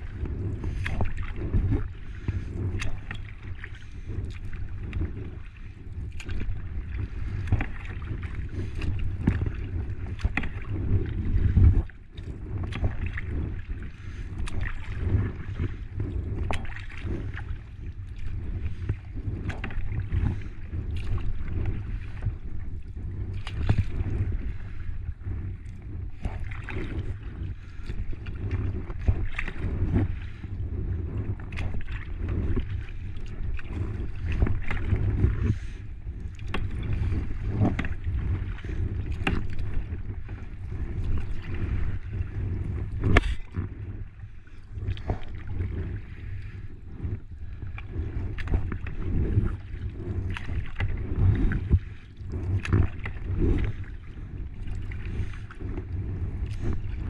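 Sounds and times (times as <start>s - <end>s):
paddle splashing water: 0.0s - 57.0s
wind rumble on microphone: 0.0s - 57.0s.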